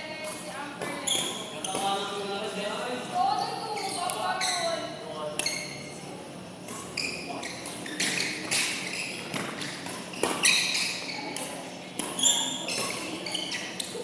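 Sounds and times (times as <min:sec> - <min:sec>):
sneakers squeaking on court: 0:00.2 - 0:02.2, 0:03.4 - 0:06.0, 0:06.6 - 0:14.0.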